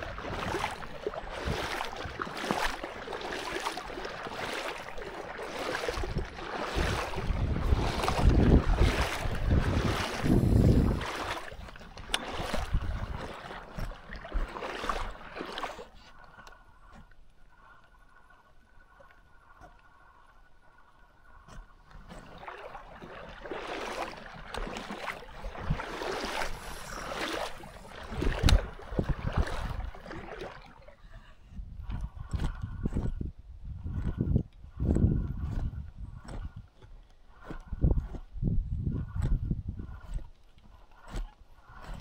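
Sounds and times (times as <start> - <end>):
water sloshing: 0.0 - 42.0.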